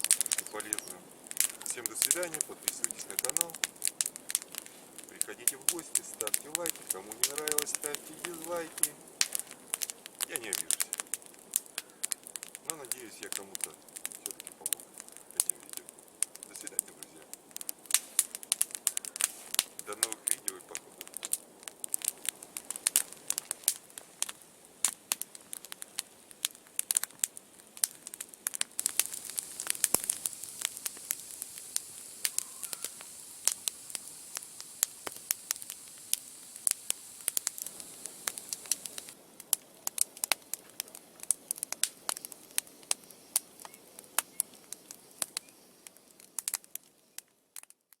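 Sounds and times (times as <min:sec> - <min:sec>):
steady high hiss: 0:00.0 - 0:47.2
campfire crackling and popping: 0:00.0 - 0:48.0.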